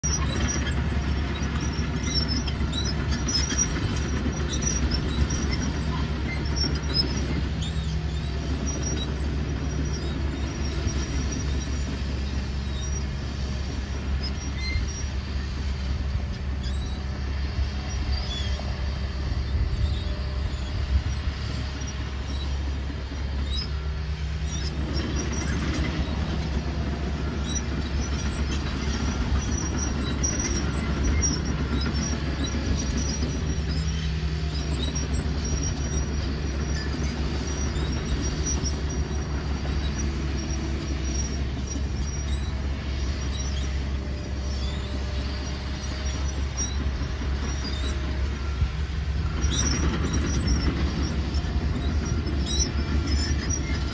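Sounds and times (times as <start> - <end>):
diesel engine running: 0.0 - 53.9
metallic squeaks from steel tracks: 0.0 - 53.9.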